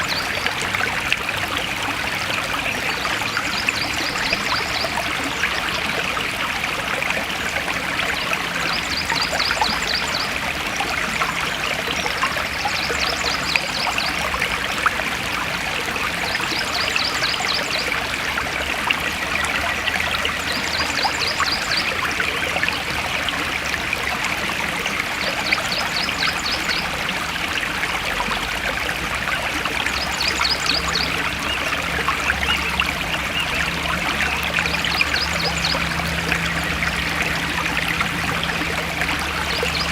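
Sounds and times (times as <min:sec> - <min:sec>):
forest stream trickling: 0:00.0 - 0:39.9.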